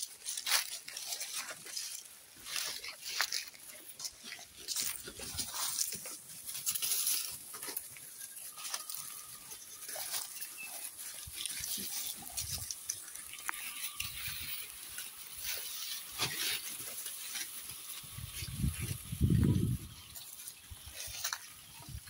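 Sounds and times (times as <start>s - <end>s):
goats chewing: 0.0s - 22.0s
grass rustling and tearing: 0.0s - 22.0s.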